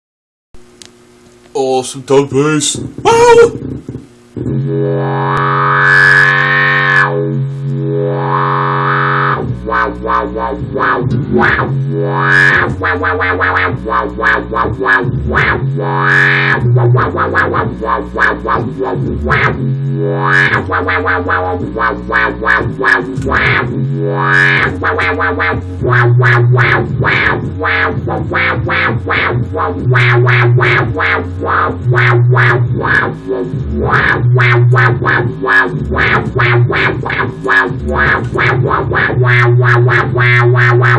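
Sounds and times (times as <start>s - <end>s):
distorted electric bass riff: 2.1s - 40.9s.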